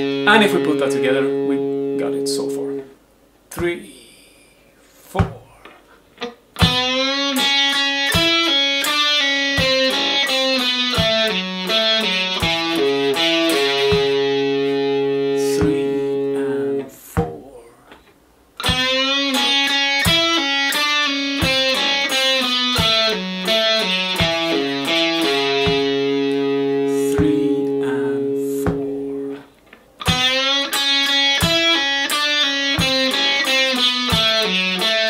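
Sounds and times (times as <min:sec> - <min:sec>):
distorted electric guitar run: 0:00.0 - 0:02.8, 0:06.6 - 0:16.9, 0:18.6 - 0:35.0
steady metronome click: 0:06.2 - 0:35.0.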